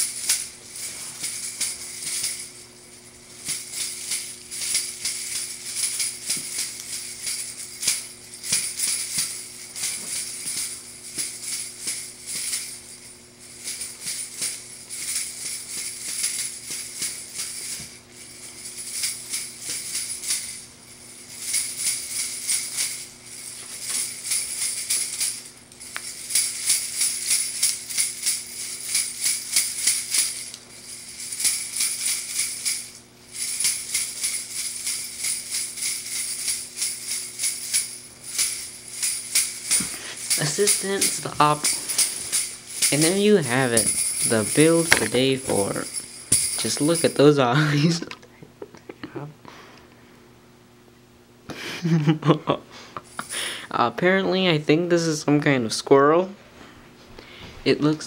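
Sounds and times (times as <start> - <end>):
ornaments jingling when shaken: 0.0 - 48.1.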